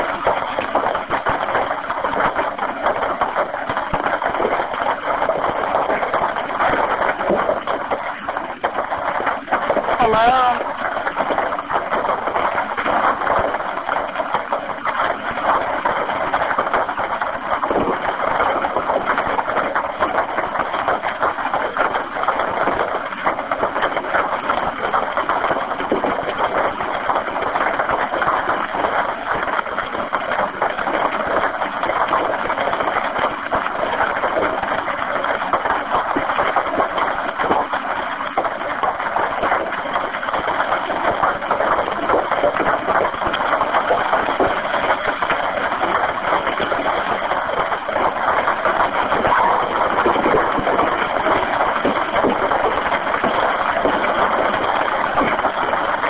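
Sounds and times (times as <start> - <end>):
fire roaring and crackling: 0.0 - 56.0.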